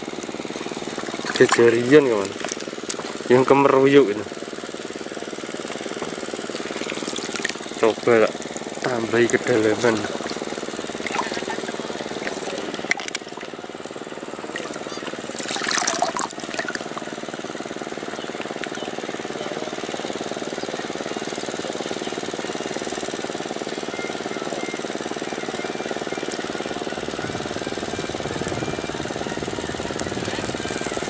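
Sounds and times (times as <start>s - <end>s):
boat diesel engine knocking: 0.0s - 31.0s.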